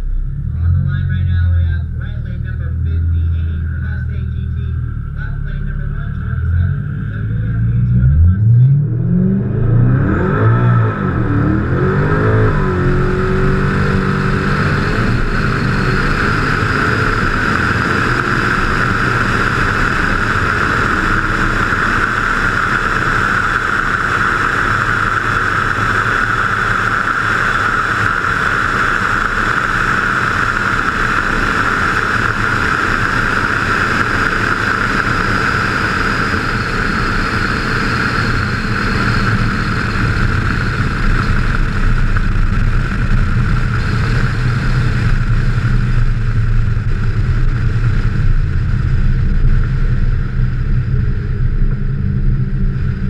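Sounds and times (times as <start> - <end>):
car engine accelerating hard: 0.0 - 53.0
wind noise at high speed: 9.1 - 53.0.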